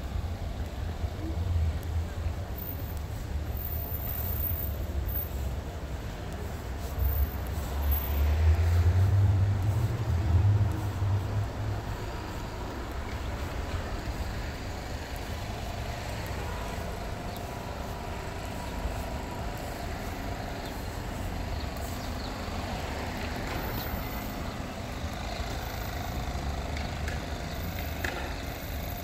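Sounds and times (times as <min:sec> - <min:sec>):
low rumble of road traffic: 0:00.0 - 0:29.0.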